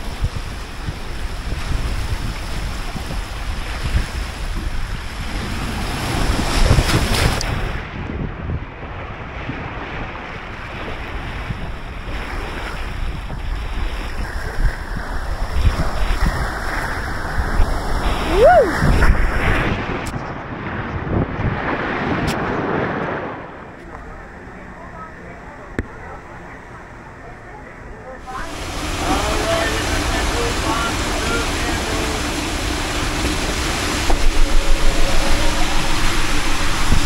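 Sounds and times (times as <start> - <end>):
water rushing: 0.0 - 8.1, 8.7 - 37.0
wind buffeting microphone: 0.0 - 24.4, 28.3 - 37.0.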